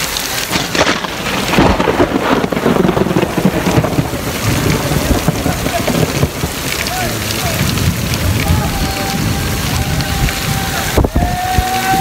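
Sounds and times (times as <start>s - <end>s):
heavy rain on pavement: 0.0s - 12.0s
wind buffeting microphone: 0.5s - 12.0s.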